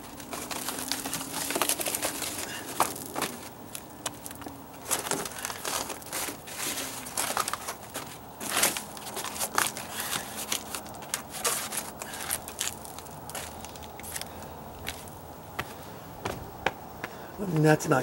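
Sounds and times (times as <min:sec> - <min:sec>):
cardboard crinkling and scraping: 0:00.0 - 0:16.4.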